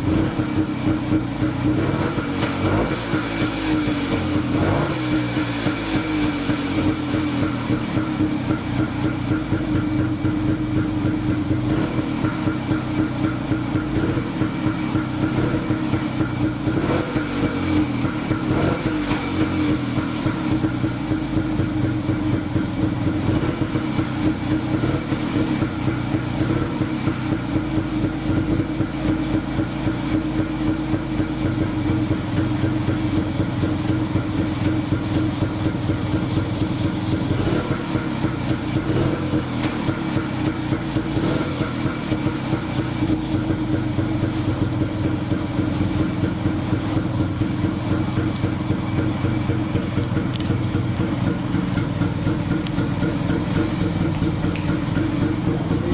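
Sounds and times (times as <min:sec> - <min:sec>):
two-stroke engine running: 0:00.0 - 0:55.9.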